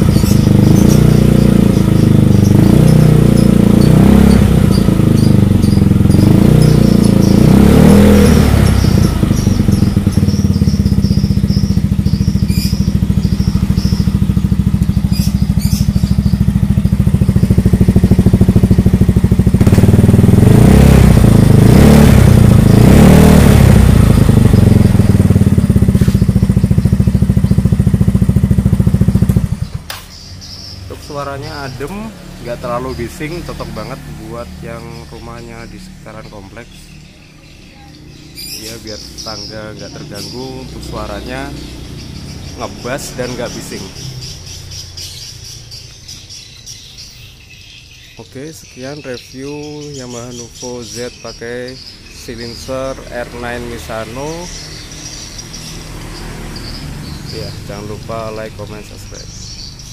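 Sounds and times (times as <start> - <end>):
scooter engine idling and revving: 0.0 - 59.9.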